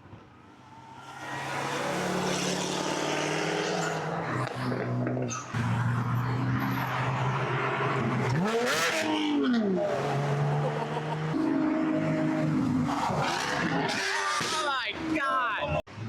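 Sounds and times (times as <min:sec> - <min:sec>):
car engine at high revs: 0:00.7 - 0:15.2.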